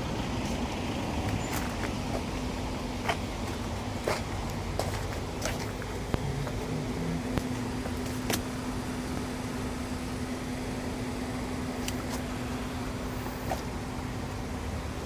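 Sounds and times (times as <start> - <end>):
vehicle engine whine: 0.0 - 15.0.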